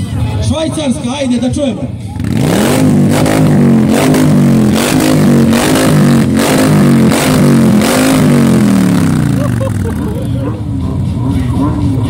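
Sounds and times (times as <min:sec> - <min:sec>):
motorcycle engine revving: 0:02.1 - 0:12.0.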